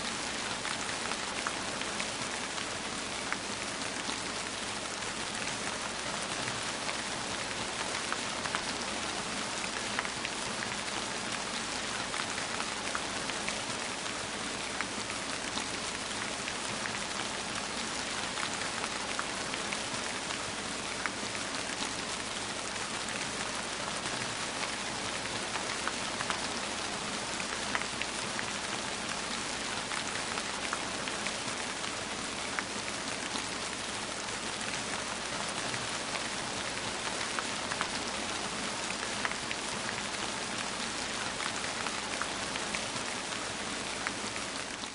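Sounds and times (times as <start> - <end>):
steady rain hiss: 0.0 - 44.9.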